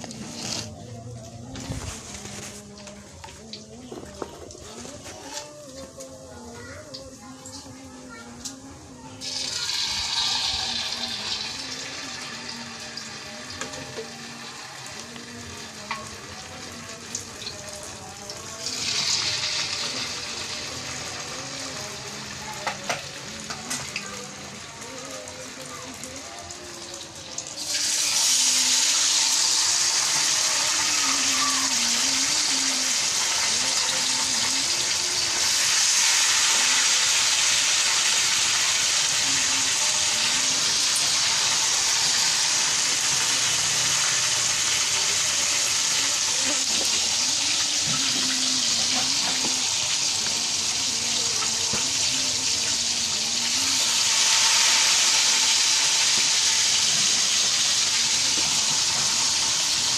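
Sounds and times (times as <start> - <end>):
oil sizzling in a wok: 3.5 - 59.9.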